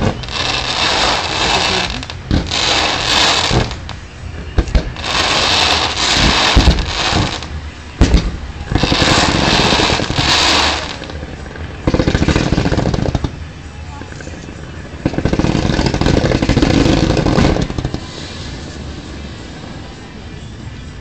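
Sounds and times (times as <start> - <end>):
firework bangs: 0.0 - 20.0
fireworks hissing and crackling: 0.0 - 21.0.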